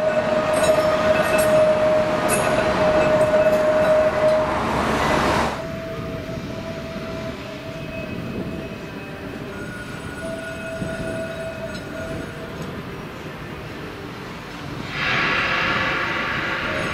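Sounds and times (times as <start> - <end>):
tram electric whine: 0.0 - 16.9
tram running gear rumble: 0.0 - 16.9.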